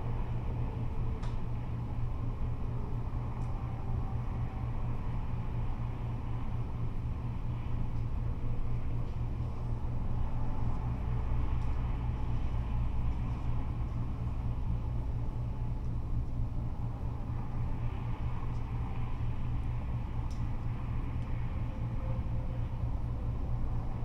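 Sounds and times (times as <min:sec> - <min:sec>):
freeway traffic rumble: 0:00.0 - 0:24.0.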